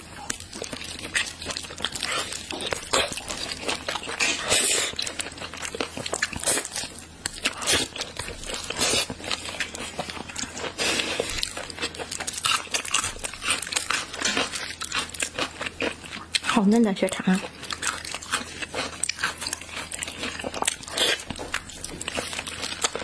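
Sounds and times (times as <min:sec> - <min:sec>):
wet chewing and mouth sounds: 0:00.0 - 0:23.0.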